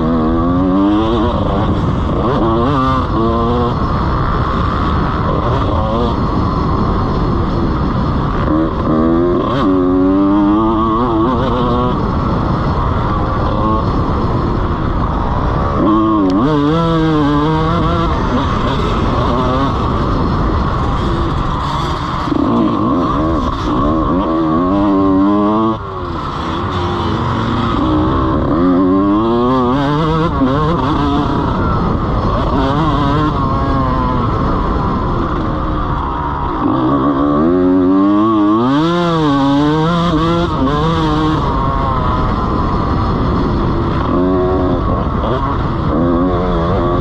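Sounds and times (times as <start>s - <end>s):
motocross engine revving: 0.0s - 47.0s.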